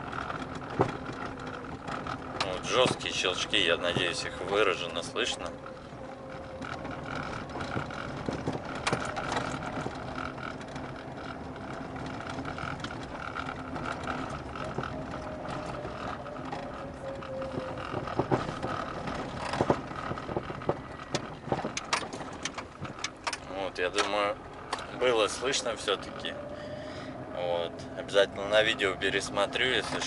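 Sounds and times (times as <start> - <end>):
suspension clicks and knocks: 0.0 - 30.0
tyre and engine noise: 0.0 - 30.0.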